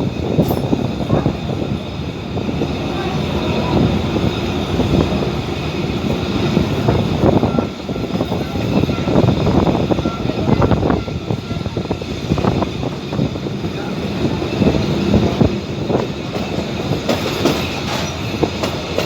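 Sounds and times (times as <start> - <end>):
train carriage rumble and rattles: 0.0 - 19.0
indistinct voices: 0.2 - 19.0.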